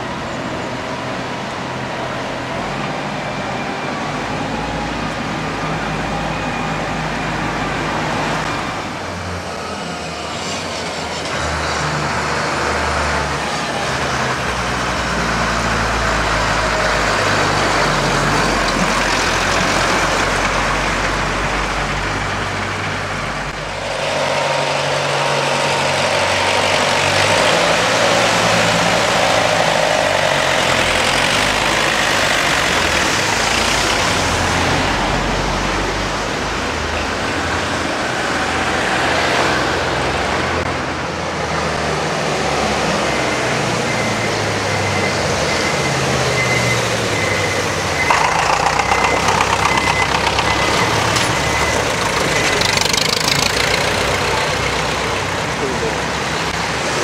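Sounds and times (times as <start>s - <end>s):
road traffic: 0.0s - 57.0s
tractor engines passing: 0.0s - 57.0s.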